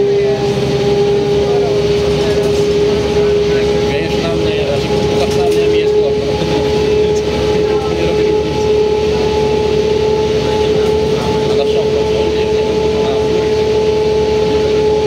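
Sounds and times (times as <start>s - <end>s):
bus diesel engine running: 0.0s - 15.0s
high drivetrain whine: 0.0s - 15.0s
road and body rumble: 0.0s - 15.0s.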